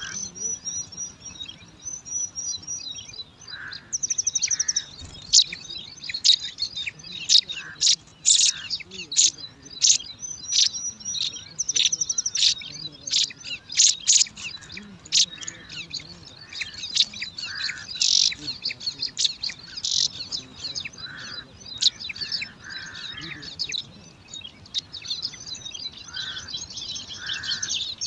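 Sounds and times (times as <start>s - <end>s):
nestlings begging with high chirps: 0.0s - 28.0s.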